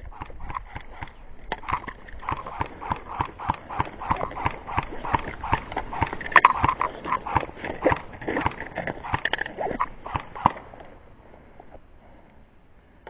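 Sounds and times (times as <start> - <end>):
running footsteps: 0.0 - 10.6.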